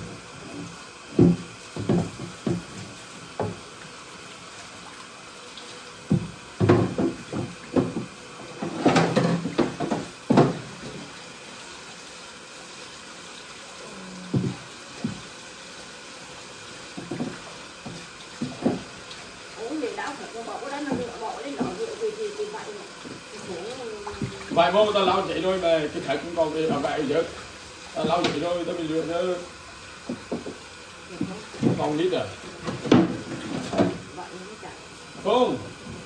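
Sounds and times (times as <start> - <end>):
tap water running into sink: 0.0 - 34.3.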